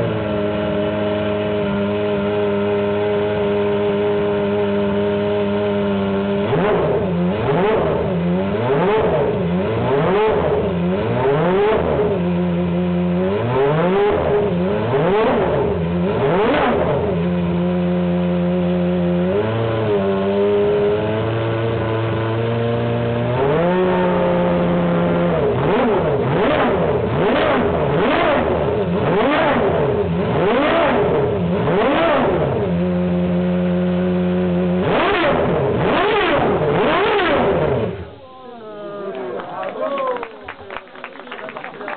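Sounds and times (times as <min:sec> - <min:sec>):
racing engine revving: 0:00.0 - 0:38.2.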